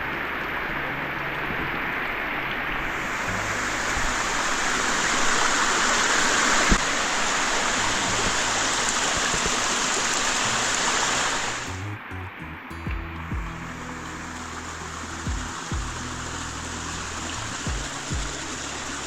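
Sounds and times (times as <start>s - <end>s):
waterfall rushing water: 0.0s - 11.8s, 13.5s - 19.0s.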